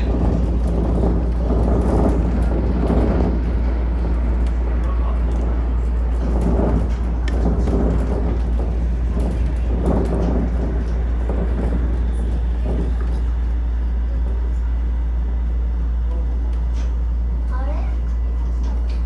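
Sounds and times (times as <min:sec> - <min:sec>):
monorail car cabin rumble: 0:00.0 - 0:19.0.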